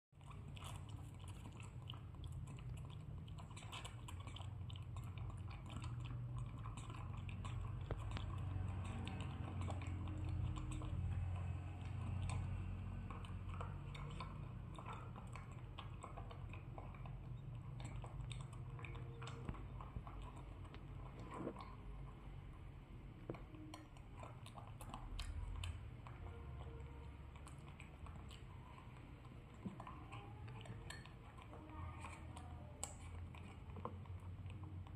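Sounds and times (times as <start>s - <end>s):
low steady hum: 0.2s - 34.9s.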